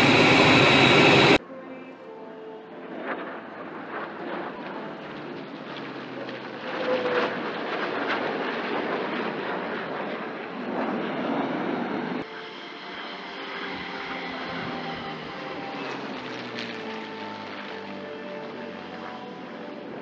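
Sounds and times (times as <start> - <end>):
jet aircraft flying past: 0.0 - 20.0.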